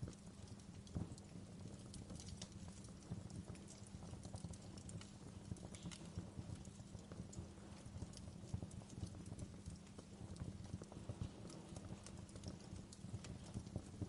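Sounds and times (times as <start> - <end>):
low rumble of flames: 0.0 - 14.0
wood fire crackling and popping: 0.0 - 14.0.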